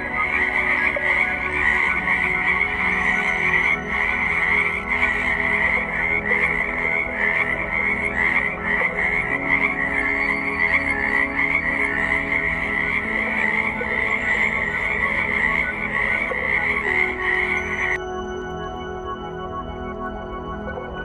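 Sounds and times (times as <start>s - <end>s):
tree frogs chorus: 0.0s - 18.0s.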